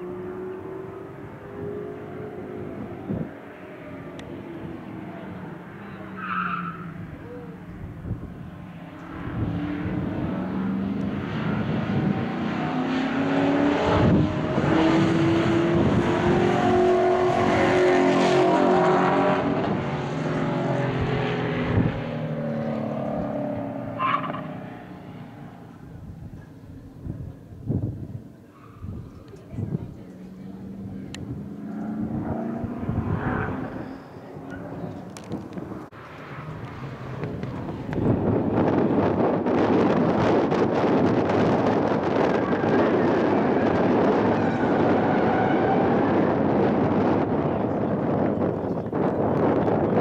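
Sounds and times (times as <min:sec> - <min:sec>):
car engine at full throttle: 0:00.0 - 0:50.0.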